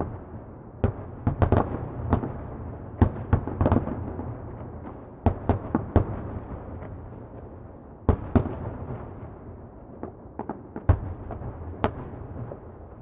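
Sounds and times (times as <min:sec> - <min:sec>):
distant fireworks exploding: 0:00.0 - 0:13.0.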